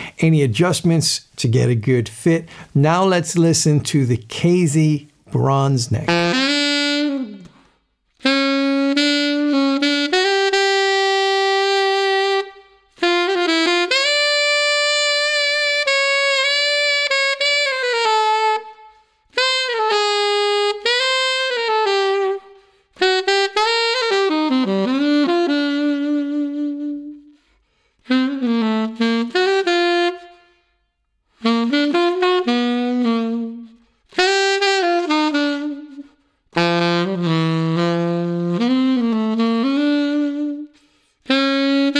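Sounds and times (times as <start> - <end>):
alto saxophone melody: 4.5 - 41.9.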